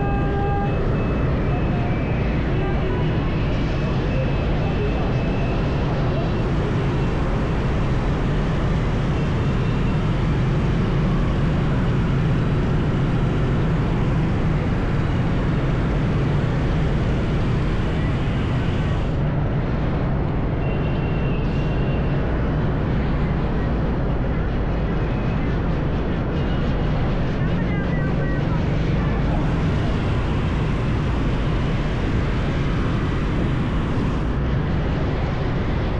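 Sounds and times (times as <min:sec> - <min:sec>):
road noise: 0:00.0 - 0:35.9
surrounding traffic: 0:00.0 - 0:35.9.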